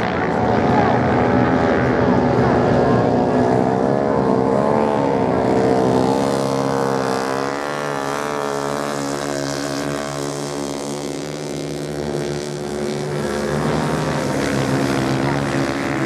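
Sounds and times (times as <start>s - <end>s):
motorcycle engines racing: 0.0s - 16.0s.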